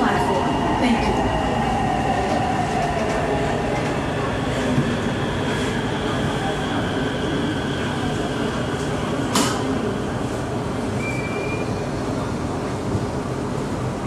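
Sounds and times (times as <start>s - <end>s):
train car rumble and hiss: 0.0s - 14.0s.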